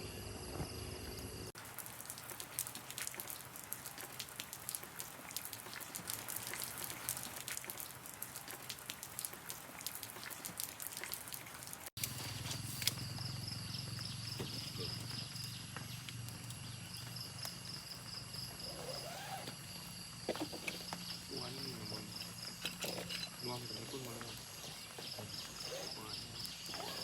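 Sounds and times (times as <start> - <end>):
light hiss of rain: 1.1 - 26.9
raindrops pattering: 1.5 - 18.7, 19.6 - 26.8.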